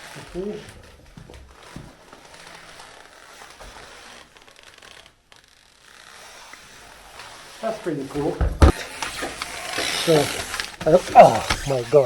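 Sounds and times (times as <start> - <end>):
faint rustling: 0.0 - 12.0.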